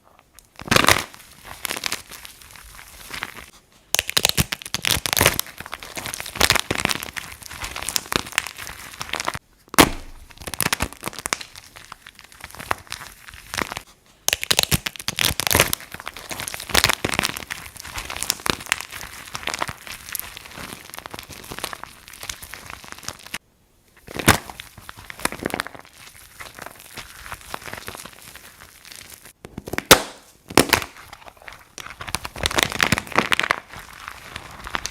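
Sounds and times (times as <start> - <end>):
dry soap crunching and crackling: 0.0 - 34.9.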